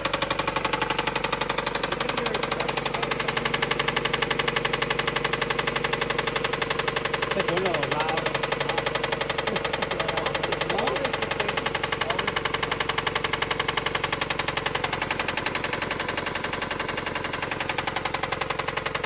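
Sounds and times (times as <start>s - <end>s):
car engine running: 0.0s - 19.0s
rapid engine knock: 0.0s - 19.0s.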